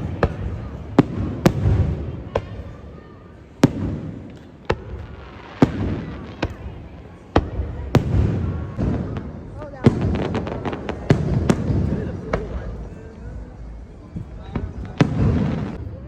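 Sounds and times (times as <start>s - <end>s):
fireworks bangs: 0.0s - 13.0s, 14.1s - 16.0s.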